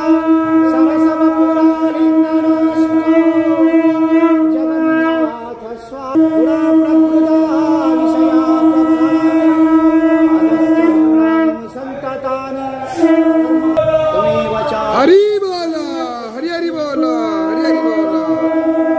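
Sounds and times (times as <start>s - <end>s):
conch shell blown: 0.0s - 11.8s, 12.8s - 14.2s, 16.8s - 18.9s.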